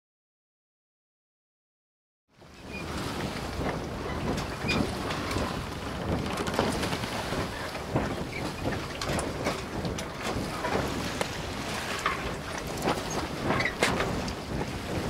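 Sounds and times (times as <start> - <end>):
wind and water rushing: 2.3 - 15.0.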